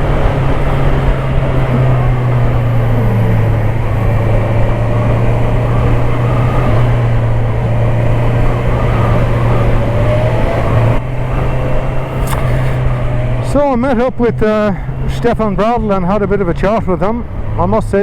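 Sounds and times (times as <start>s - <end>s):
motorcycle engine droning: 0.0s - 17.4s.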